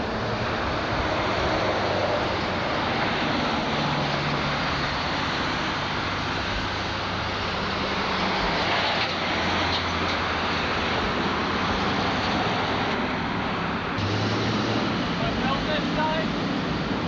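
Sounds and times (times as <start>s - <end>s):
passing traffic: 0.0s - 17.0s
vehicle engine and road noise: 0.0s - 17.0s.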